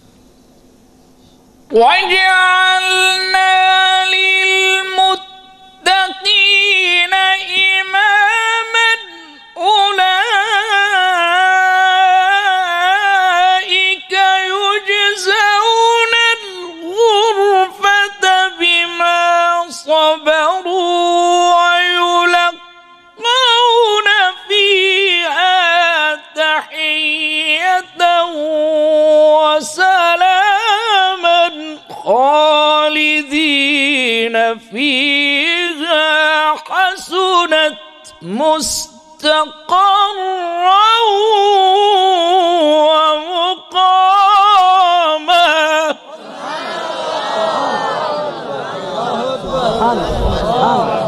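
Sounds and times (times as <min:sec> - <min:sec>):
man chanting melodically into microphone: 0:01.7 - 0:46.1.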